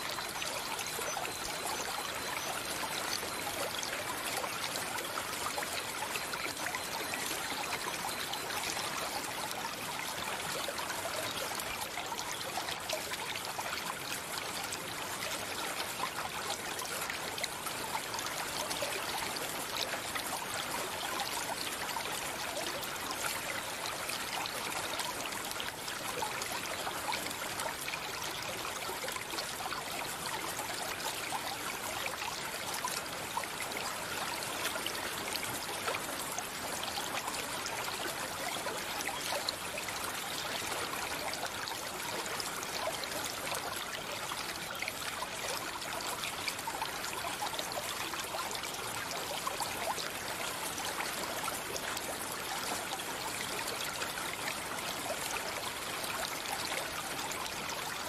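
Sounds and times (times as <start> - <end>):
stream water babbling: 0.0 - 58.0.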